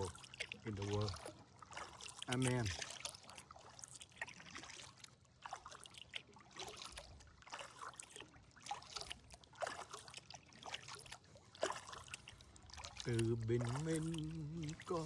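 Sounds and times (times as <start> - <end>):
paddle strokes in water: 0.0 - 15.0
water trickling off paddle: 0.0 - 15.0.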